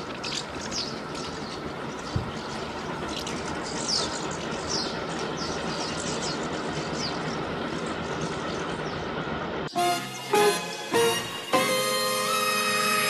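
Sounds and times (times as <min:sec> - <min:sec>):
birds chirping: 0:00.0 - 0:13.0
train rumbling on track: 0:00.0 - 0:13.0.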